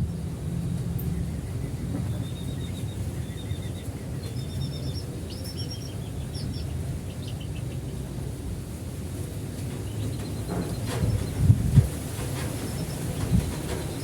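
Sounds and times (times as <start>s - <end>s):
bird chirping: 1.0s - 8.1s, 9.6s - 14.0s.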